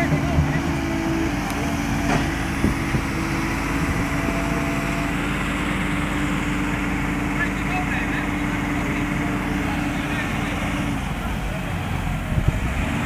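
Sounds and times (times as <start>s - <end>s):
excavator diesel engine: 0.0s - 13.0s
tractor diesel engine: 0.0s - 13.0s.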